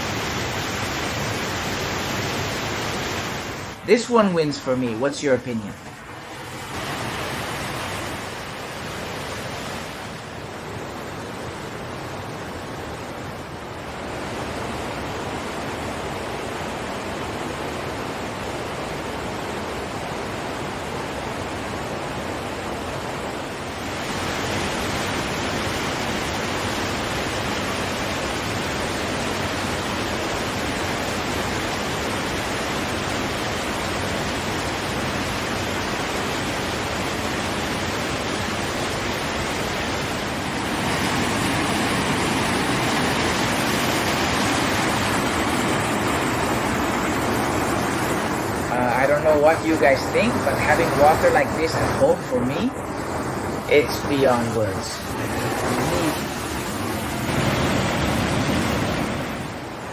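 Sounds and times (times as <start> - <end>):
waterfall rushing: 0.0 - 18.0, 20.2 - 59.9.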